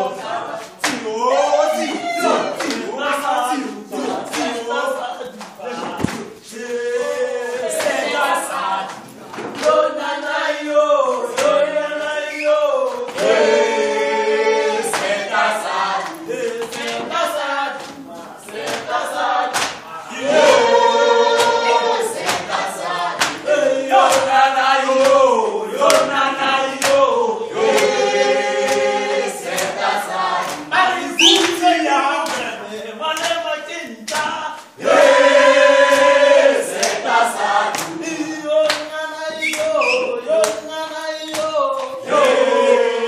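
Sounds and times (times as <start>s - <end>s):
group singing unaccompanied: 0.0s - 43.0s.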